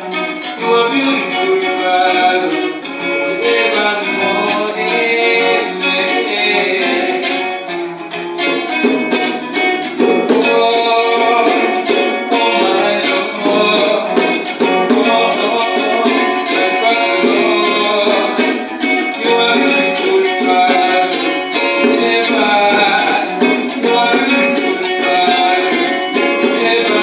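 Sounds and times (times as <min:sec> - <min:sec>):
man singing into a microphone: 0:00.0 - 0:07.7, 0:09.8 - 0:27.0
electric guitar picked melody: 0:00.0 - 0:27.0
hand-drum beats: 0:00.0 - 0:27.0.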